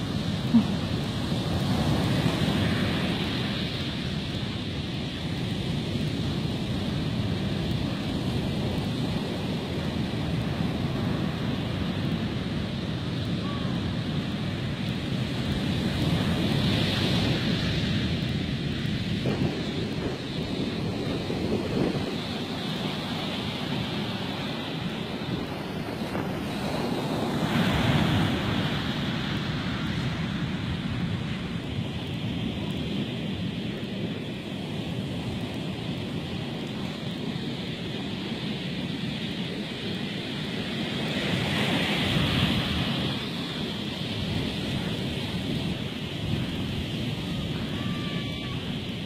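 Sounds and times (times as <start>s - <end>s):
surf breaking on shore: 0.0s - 49.0s
wind buffeting microphone: 0.0s - 49.0s.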